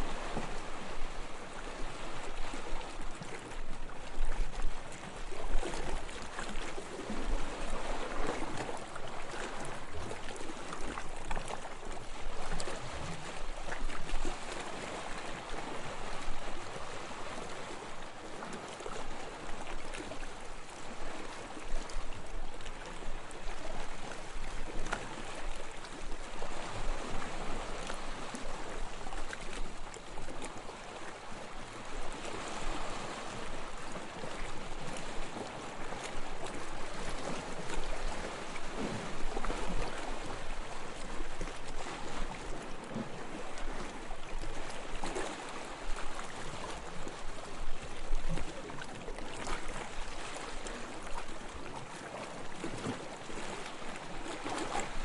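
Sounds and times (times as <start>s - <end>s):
sea water lapping and splashing: 0.0s - 55.0s.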